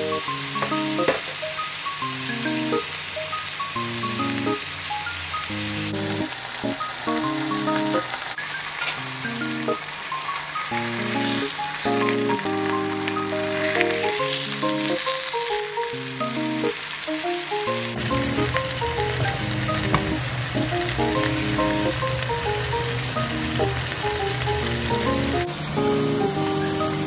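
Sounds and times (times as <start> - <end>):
burger patties sizzling in pan: 0.0 - 27.0
soft melodic background music: 0.0 - 27.0.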